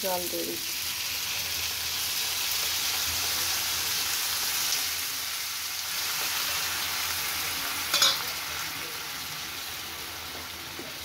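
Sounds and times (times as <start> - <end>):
potatoes sizzling in oil: 0.0 - 11.0.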